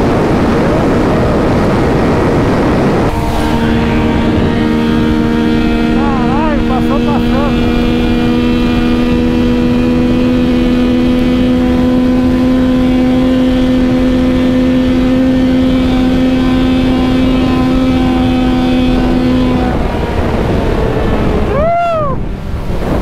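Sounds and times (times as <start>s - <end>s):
motorcycle engine at high revs: 0.0s - 23.0s
wind rush over microphone: 0.0s - 23.0s.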